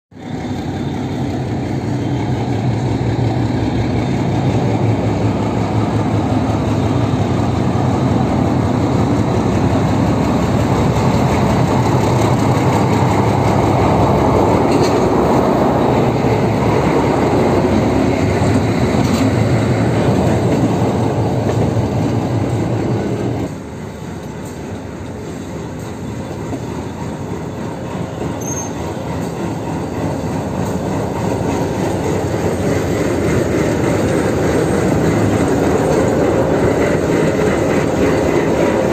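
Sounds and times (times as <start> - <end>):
diesel locomotive engines: 0.1 - 38.9
train rolling past: 0.1 - 38.9.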